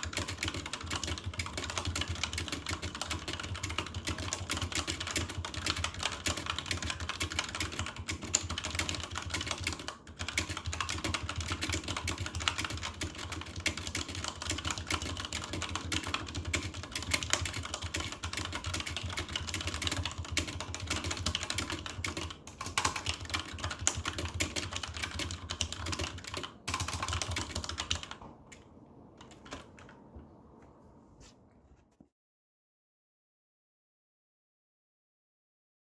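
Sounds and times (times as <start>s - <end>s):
typing on computer keyboard: 0.0s - 30.0s.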